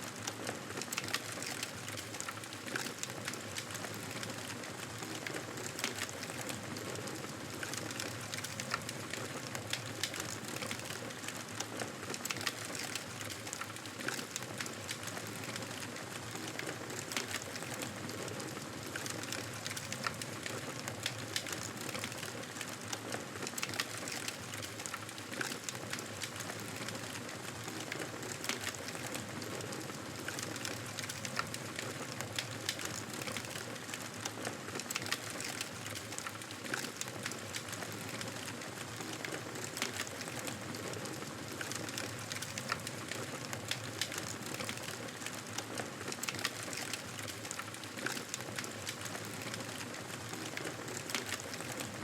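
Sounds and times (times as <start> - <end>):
fire crackling and popping: 0.2 - 52.0.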